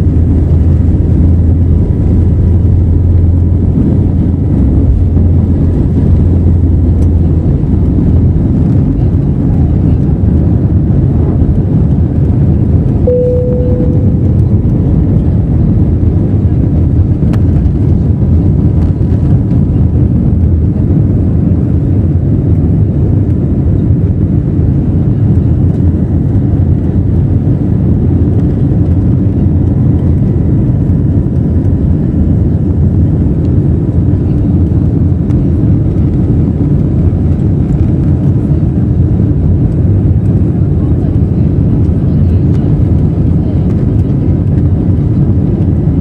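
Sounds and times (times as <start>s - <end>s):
jet engines roaring in cabin: 0.0s - 46.0s.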